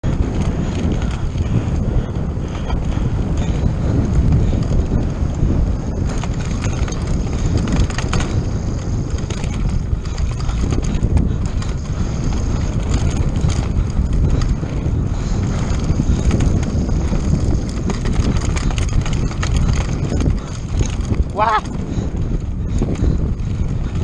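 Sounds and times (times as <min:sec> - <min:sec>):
bike rattling and clicking: 0:00.0 - 0:24.0
tyres on loose dirt: 0:00.0 - 0:24.0
wind buffeting microphone: 0:00.0 - 0:24.0.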